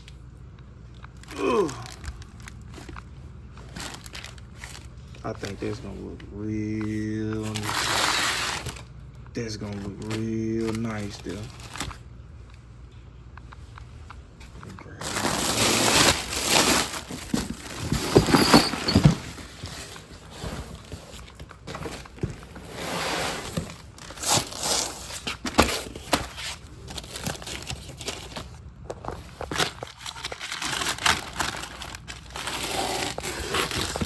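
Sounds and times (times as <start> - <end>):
packing material rustling: 1.1 - 6.0, 6.9 - 8.9, 9.5 - 12.0, 14.9 - 34.0.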